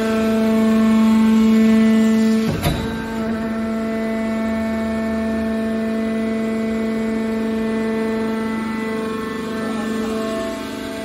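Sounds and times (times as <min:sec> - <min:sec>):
hydraulic motor and pump whine: 0:00.0 - 0:11.0.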